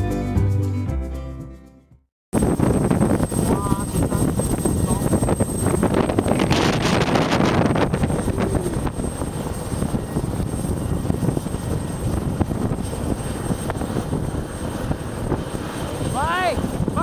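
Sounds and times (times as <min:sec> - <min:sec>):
helicopter rotor running: 0:02.4 - 0:17.0.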